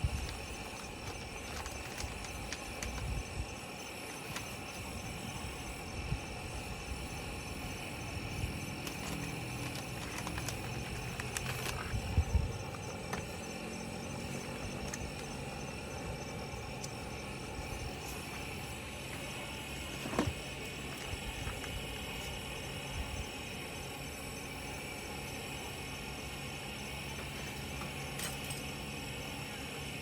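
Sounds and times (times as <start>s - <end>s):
high pulsing insect call: 0.0s - 30.0s
insect chorus droning: 0.0s - 30.0s.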